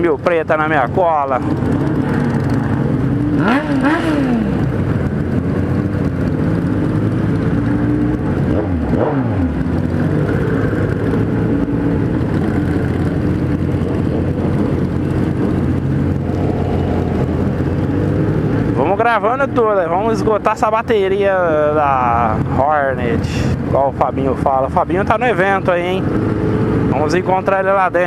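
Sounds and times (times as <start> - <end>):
motorcycle engines revving: 0.0 - 28.0
motorcycle engines running: 0.0 - 28.0.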